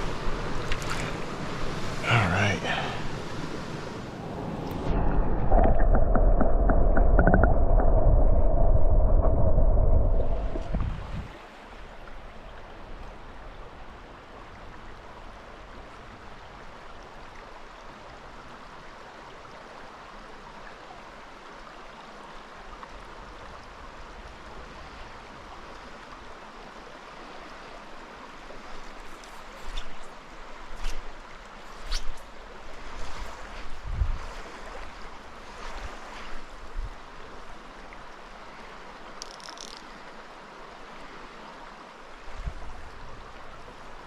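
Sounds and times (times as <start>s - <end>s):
stream flowing: 0.0s - 44.0s.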